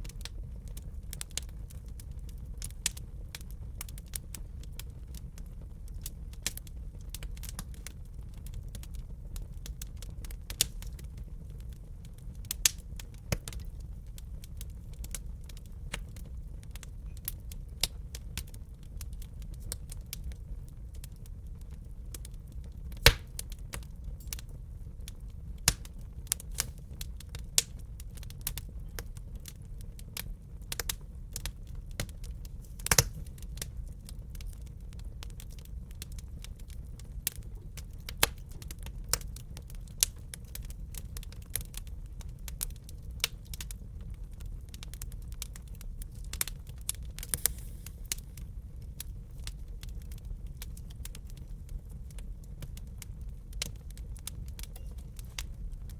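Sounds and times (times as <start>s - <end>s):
wood fire burning: 0.0s - 55.9s.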